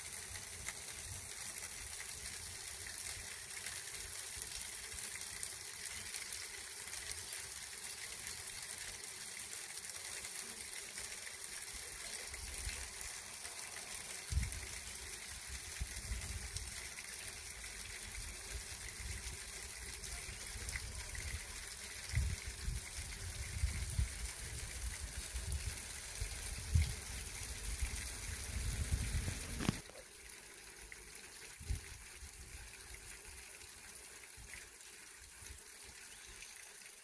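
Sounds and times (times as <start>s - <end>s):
stream water splashing: 0.0s - 32.0s.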